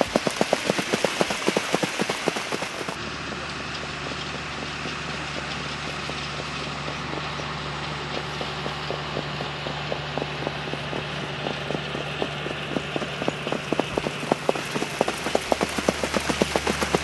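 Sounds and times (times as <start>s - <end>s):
hoofbeats of trotting horses: 0.0s - 17.0s
steady low hum: 1.1s - 17.0s.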